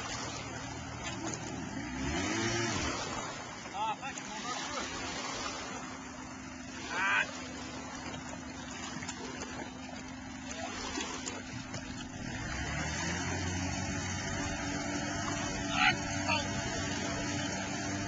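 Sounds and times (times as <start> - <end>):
boat engine hum: 0.0 - 18.0
water lapping: 0.0 - 18.0.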